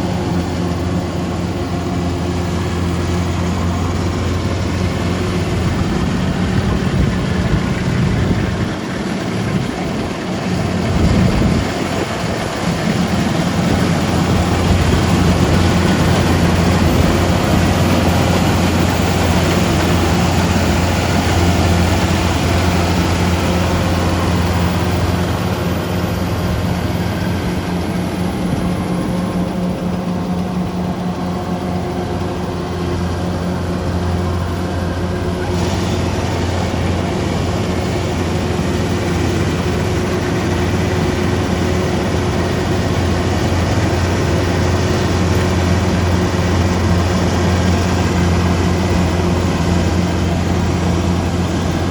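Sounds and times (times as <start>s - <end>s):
harvesting machine engine running: 0.0s - 51.9s.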